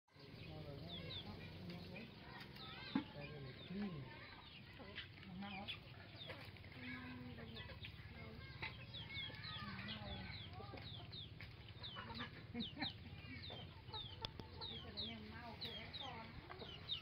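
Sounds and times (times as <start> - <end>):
chickens clucking: 0.2 - 17.0.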